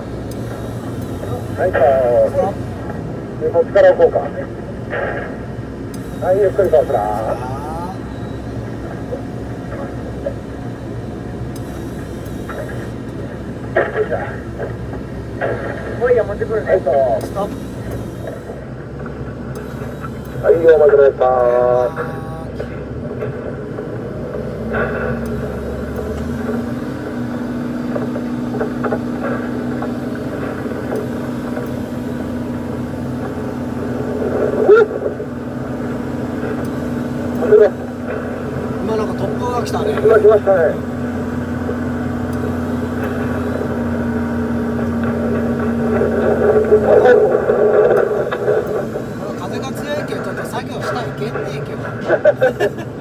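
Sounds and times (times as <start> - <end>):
diesel engine drone: 0.0 - 53.0.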